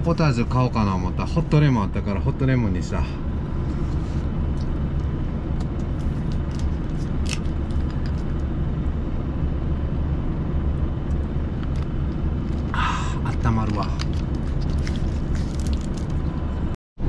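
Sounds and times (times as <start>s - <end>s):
diesel truck engine idling: 0.0s - 16.7s.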